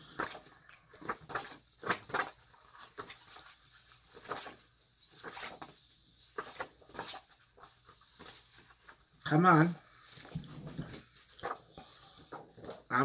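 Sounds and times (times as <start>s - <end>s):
paper cards shuffled by hand: 0.0s - 9.0s, 10.1s - 13.0s.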